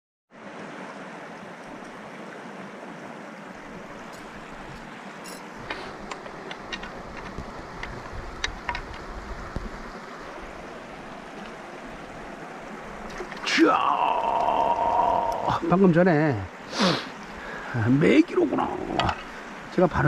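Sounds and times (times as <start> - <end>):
flowing water: 0.3 - 20.0.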